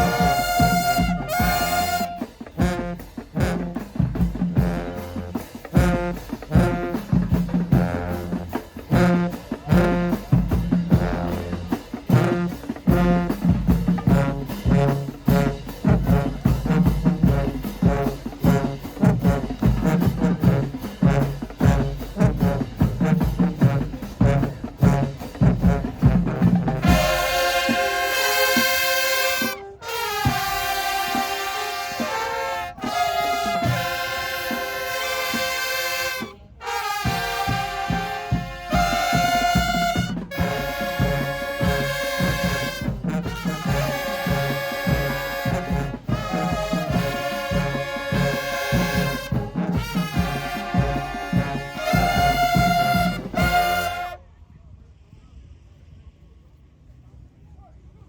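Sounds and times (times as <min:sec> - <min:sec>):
horn section held chords: 0:00.0 - 0:54.2
marching band drums and low brass: 0:00.0 - 0:54.3.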